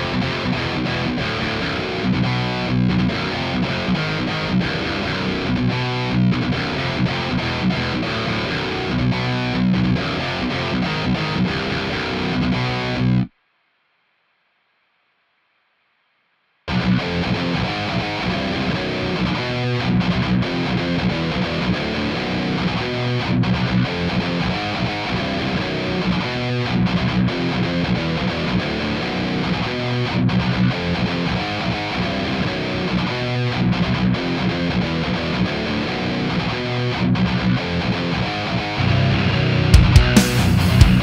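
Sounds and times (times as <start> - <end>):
distorted electric guitar riff: 0.0 - 13.3, 16.7 - 41.0.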